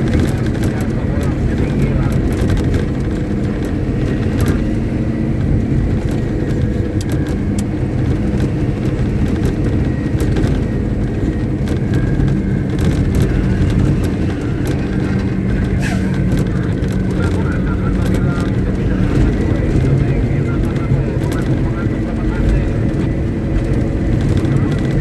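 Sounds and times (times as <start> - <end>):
diesel engine running steadily: 0.0 - 25.0.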